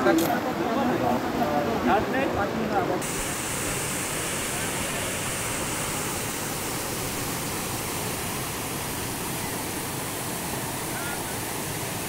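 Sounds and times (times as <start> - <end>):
floodwater rushing: 0.3 - 12.0.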